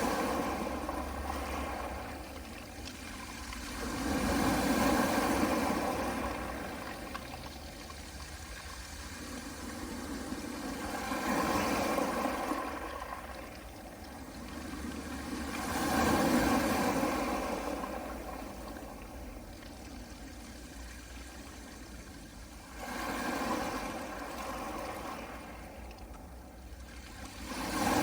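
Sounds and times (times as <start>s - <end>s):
waves washing onto pebble beach: 0.0s - 19.5s, 22.6s - 26.2s, 27.0s - 28.0s.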